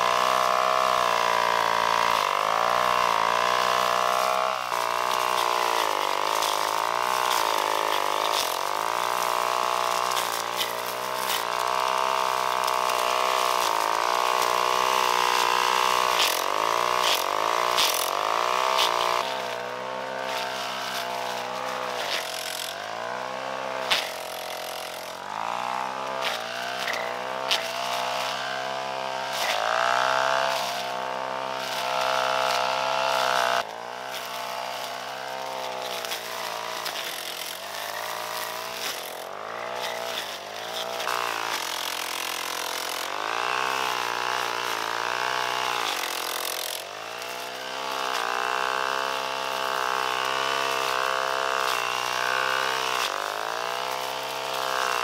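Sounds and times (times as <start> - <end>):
small petrol engine revving: 0.0 - 55.0.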